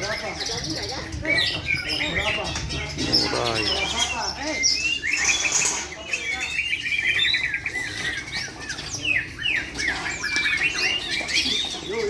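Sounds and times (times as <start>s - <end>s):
birds singing trills and whistles: 0.0s - 12.0s.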